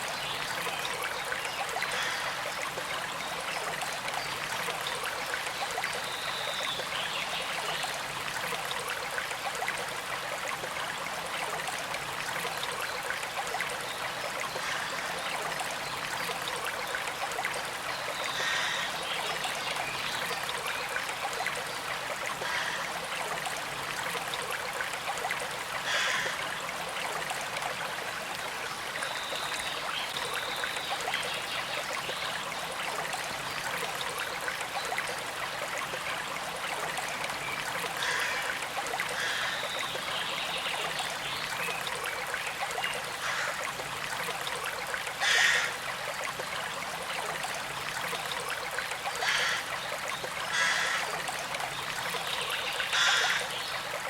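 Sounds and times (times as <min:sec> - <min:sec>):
creek water flowing over stones: 0:00.0 - 0:54.0.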